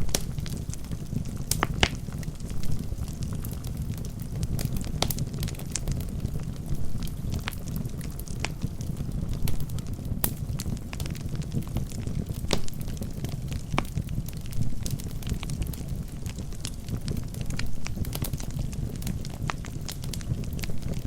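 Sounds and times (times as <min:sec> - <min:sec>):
crackles and pops of burning logs: 0:00.0 - 0:21.0
low rumble of flames: 0:00.0 - 0:21.0.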